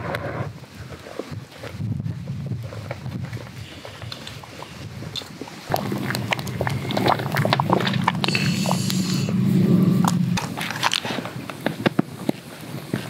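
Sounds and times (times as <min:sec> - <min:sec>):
wood fire crackling and popping: 0:00.0 - 0:09.3, 0:10.0 - 0:13.0
steady low rumble: 0:01.7 - 0:12.4.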